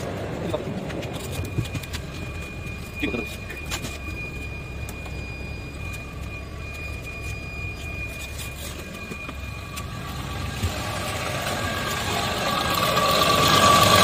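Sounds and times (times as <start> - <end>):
diesel engine idling: 0.0 - 14.0
thin high tone: 1.0 - 14.0.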